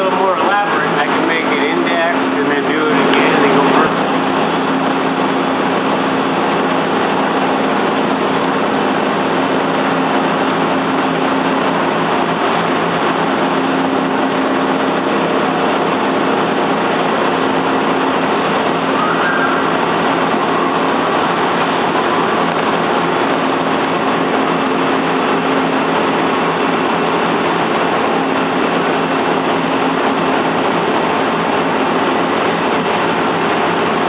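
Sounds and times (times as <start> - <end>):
lathe machine humming: 0.0 - 34.0.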